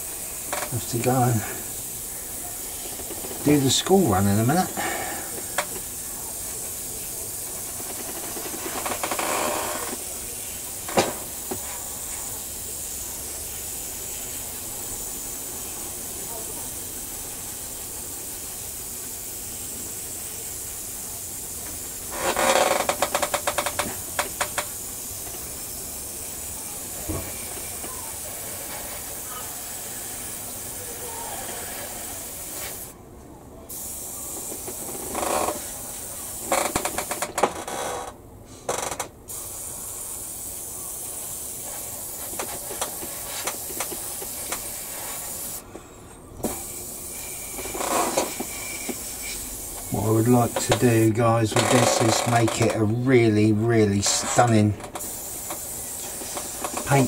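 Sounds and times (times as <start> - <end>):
airbrush spraying hiss: 0.0 - 33.0, 33.7 - 37.3, 39.3 - 45.7, 46.4 - 57.0.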